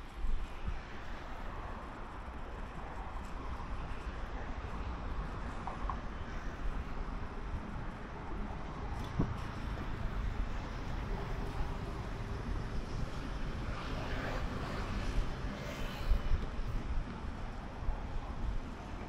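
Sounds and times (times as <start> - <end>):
traffic rumble: 0.4 - 19.0.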